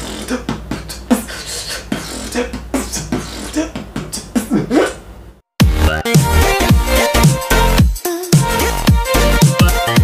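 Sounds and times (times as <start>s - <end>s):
man beatboxing: 0.0s - 5.0s, 5.9s - 10.0s.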